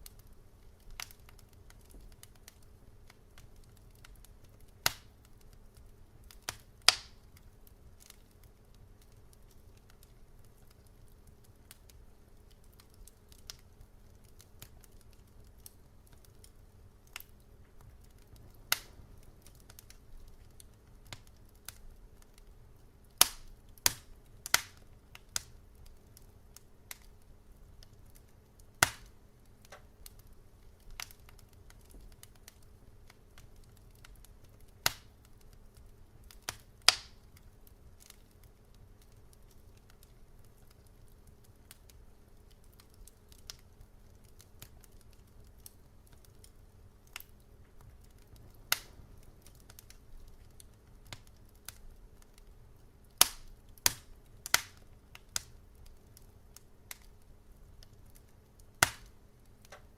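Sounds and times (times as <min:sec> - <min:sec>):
faint low hum: 0:00.0 - 0:59.9
wood fire crackling: 0:00.0 - 0:59.9.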